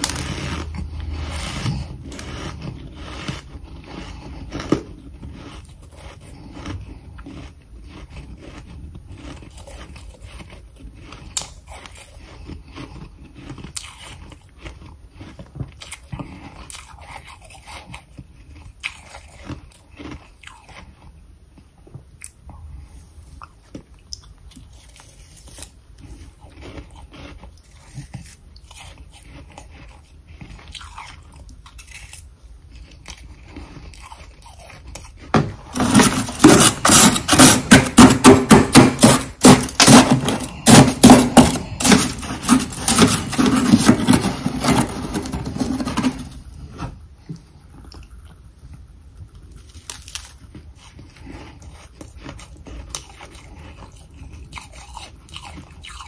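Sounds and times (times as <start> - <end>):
chewing crunchy frost: 0.0 - 56.0.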